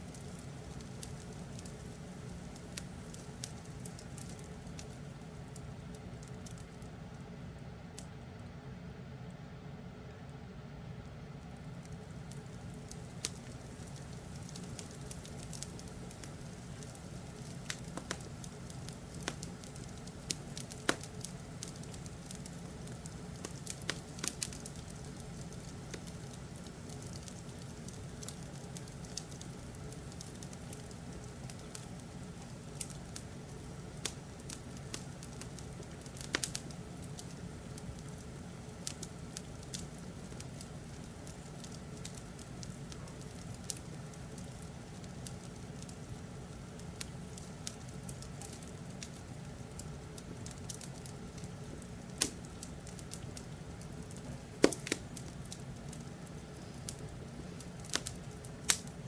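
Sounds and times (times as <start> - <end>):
wood fire crackling and popping: 0.0 - 8.4, 11.0 - 59.0
low fire rumble: 0.0 - 59.0.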